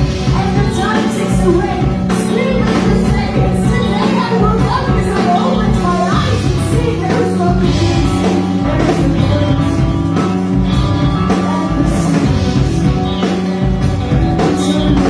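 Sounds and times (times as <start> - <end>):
bass guitar: 0.0 - 15.0
drums with steady beat: 0.0 - 15.0
electric guitars: 0.0 - 15.0.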